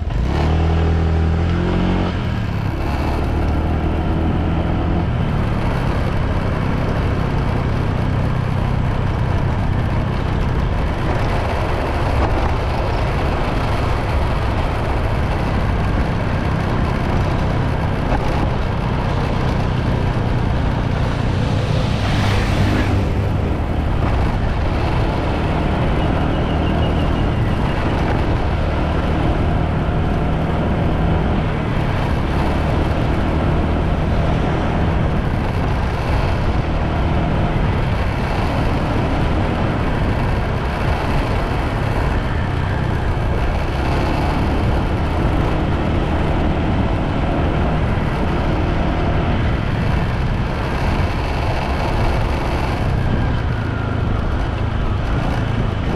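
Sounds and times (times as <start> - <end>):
wind and road noise: 0.0 - 55.9
motorbike engine running: 1.5 - 55.9.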